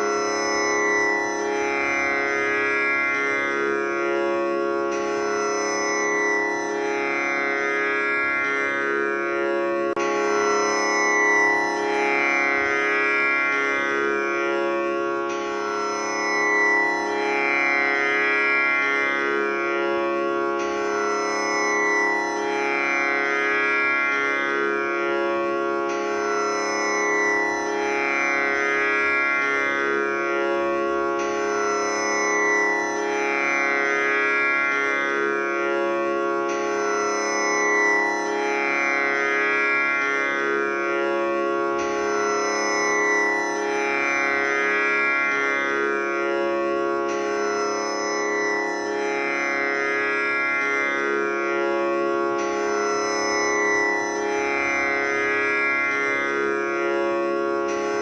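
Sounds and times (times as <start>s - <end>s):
tanpura drone: 0.0s - 58.0s.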